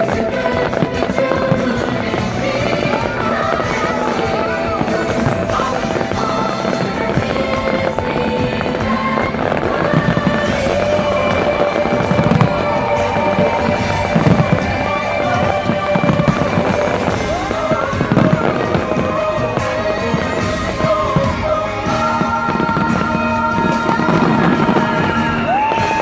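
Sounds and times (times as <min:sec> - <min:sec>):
fireworks booming: 0:00.0 - 0:26.0
loud show music: 0:00.0 - 0:26.0.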